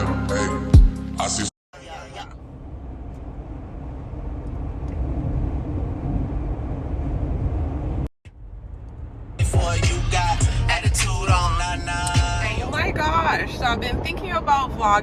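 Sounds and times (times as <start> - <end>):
motor vehicle rumble: 1.8 - 15.0.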